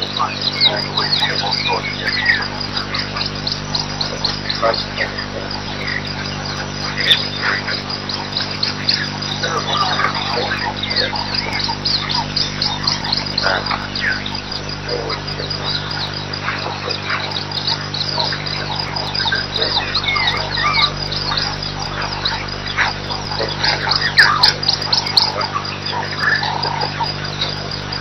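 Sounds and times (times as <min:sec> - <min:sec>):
bird calls: 0:00.0 - 0:28.0
insects and birds chirping: 0:00.0 - 0:28.0
steady low hum: 0:00.0 - 0:28.0.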